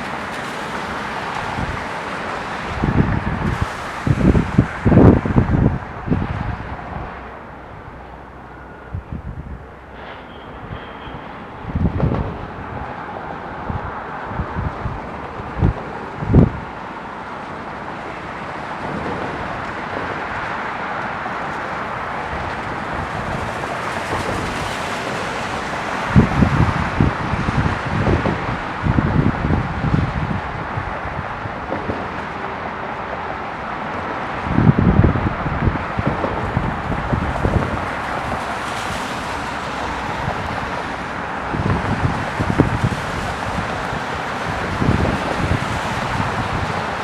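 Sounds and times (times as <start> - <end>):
distant airport and traffic roar: 0.0 - 47.0
jet engines rushing: 0.0 - 47.0
wind buffeting microphone: 0.0 - 47.0.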